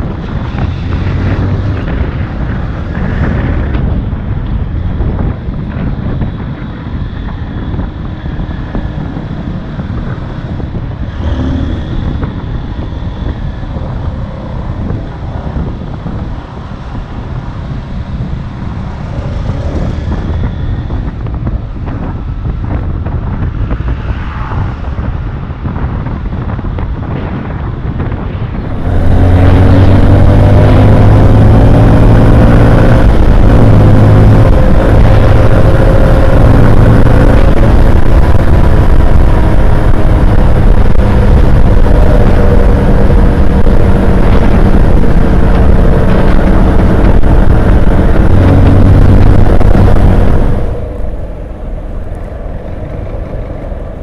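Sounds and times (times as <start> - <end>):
motorcycle engine running hard: 0.0 - 54.0
road and wind noise: 0.0 - 54.0
surrounding traffic: 0.0 - 54.0.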